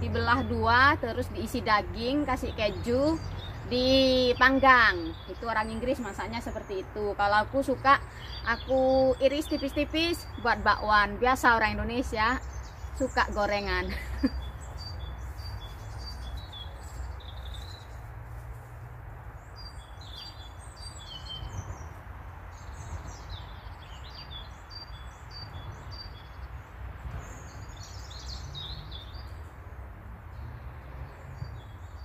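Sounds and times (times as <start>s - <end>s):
birds chirping and singing: 0.0s - 18.1s, 19.4s - 26.5s, 27.2s - 29.4s.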